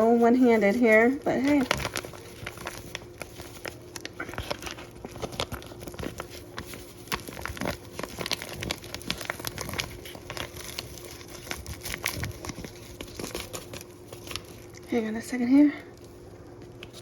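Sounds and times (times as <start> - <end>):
faint steady hum: 0.0 - 17.0
seasoning packet crinkling and tearing: 1.2 - 14.9.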